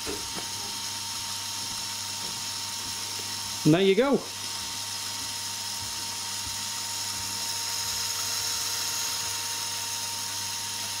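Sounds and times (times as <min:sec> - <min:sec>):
small electric motor whining: 0:00.0 - 0:11.0.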